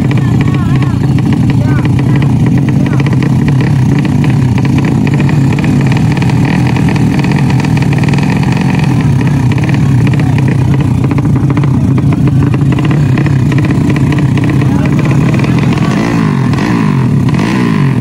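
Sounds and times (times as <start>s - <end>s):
motorcycle engine running loudly: 0.0s - 18.0s.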